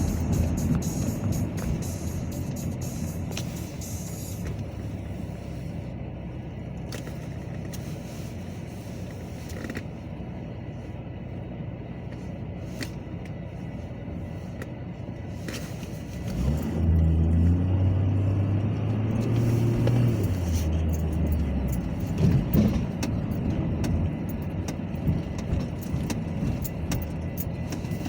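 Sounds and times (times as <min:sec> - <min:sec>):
diesel locomotive rumble: 0:00.0 - 0:28.0.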